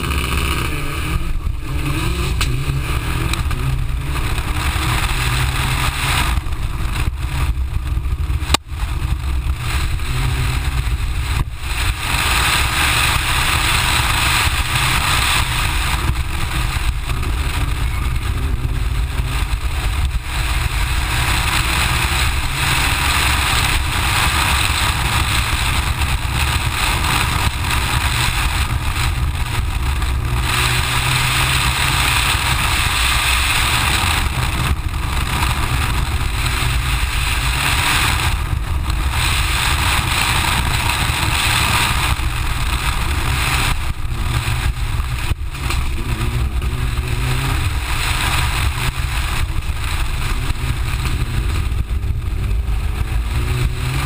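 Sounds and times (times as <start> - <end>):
car engine running under load: 0.0 - 54.0
heavy wind rush: 0.0 - 54.0.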